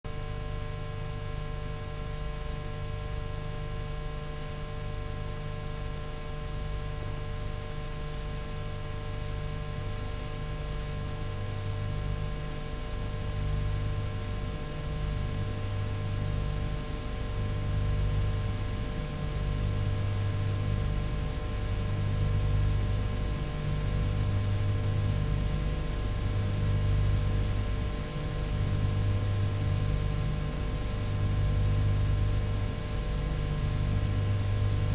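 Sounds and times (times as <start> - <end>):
low electrical hum: 0.1 - 34.9.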